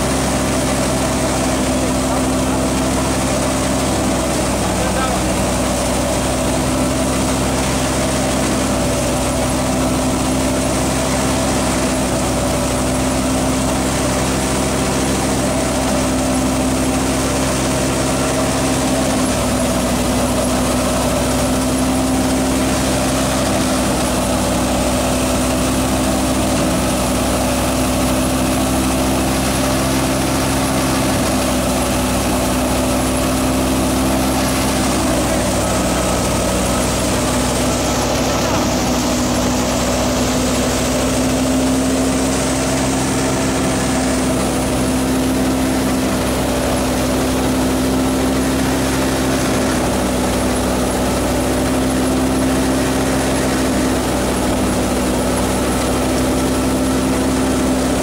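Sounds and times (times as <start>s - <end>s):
thresher mechanical drone: 0.0s - 58.0s.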